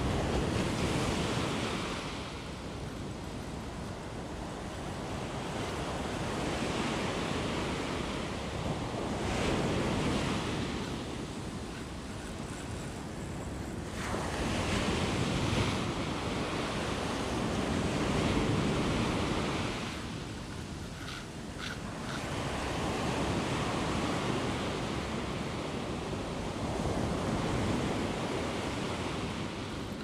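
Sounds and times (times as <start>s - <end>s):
ocean surf on sandy beach: 0.0s - 30.0s.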